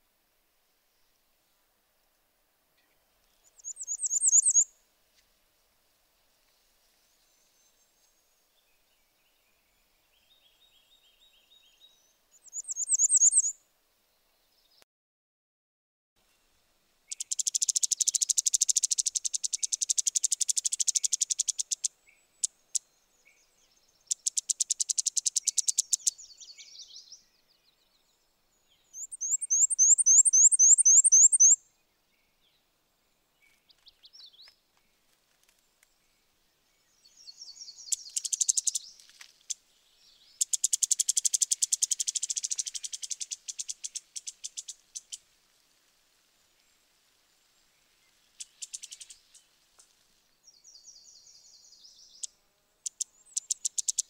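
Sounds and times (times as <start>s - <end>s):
bird singing high thin songs: 2.8s - 4.8s, 6.4s - 13.6s, 17.1s - 34.6s, 35.8s - 45.2s, 46.4s - 54.0s.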